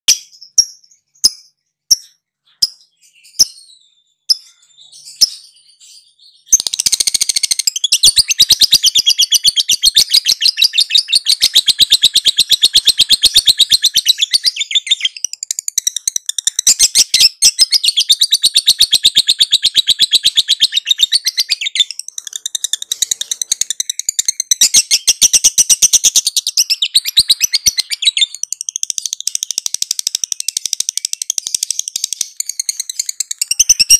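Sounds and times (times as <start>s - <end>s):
bird chirps: 0.1s - 33.9s.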